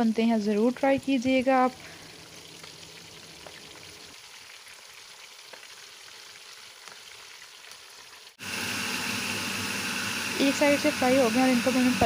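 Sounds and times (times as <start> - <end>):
oil sizzling around frying meat: 0.0 - 12.0.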